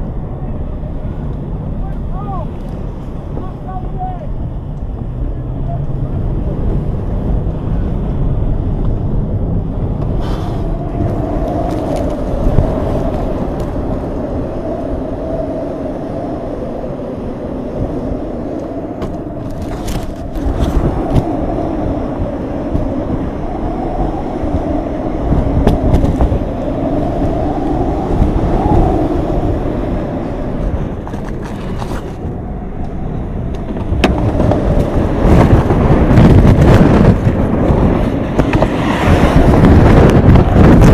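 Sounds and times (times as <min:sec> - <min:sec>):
road rumble inside car: 0:00.0 - 0:40.9
wind noise: 0:00.0 - 0:40.9.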